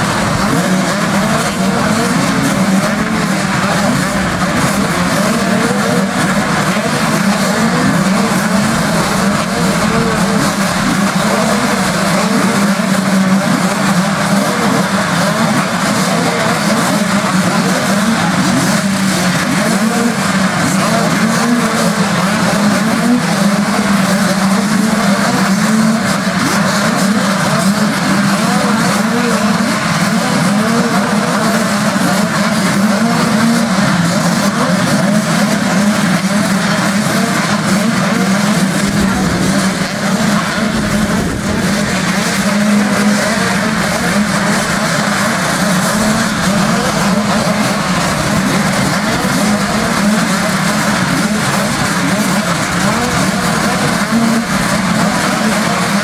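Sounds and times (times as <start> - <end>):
motocross bike engines: 0.0 - 56.0.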